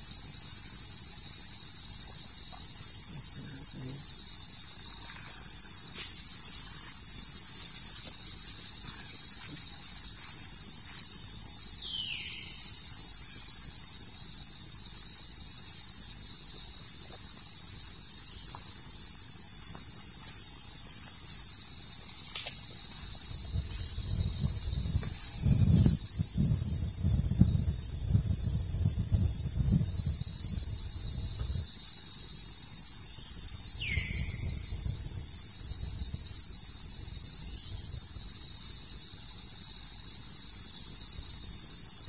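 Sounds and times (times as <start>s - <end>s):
insect chorus: 0.0s - 42.0s.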